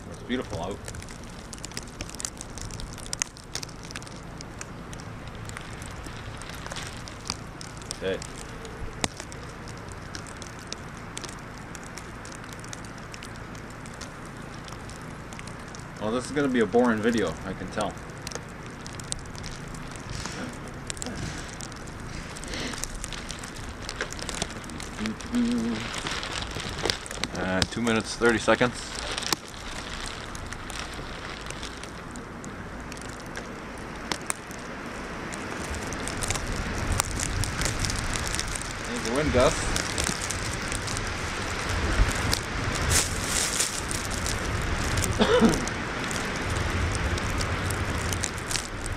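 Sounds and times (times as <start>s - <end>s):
faint crackles and ticks: 0.0s - 48.9s
steady wind in snowstorm: 0.0s - 48.9s.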